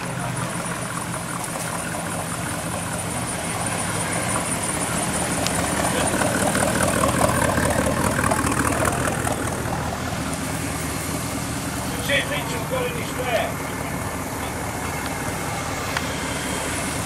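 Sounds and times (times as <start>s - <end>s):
car engine passing slowly: 0.0s - 17.0s.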